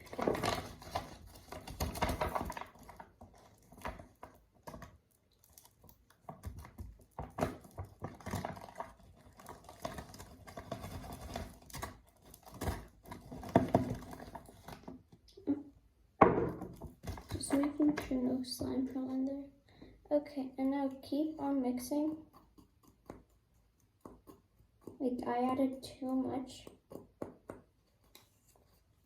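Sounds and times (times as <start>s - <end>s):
slime being stirred with stick: 0.0s - 29.0s.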